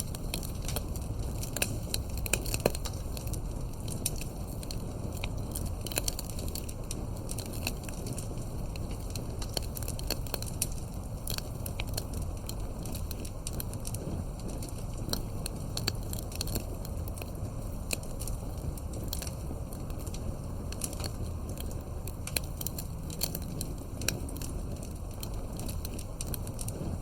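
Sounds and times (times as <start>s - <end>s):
fire crackling and popping: 0.0s - 27.0s.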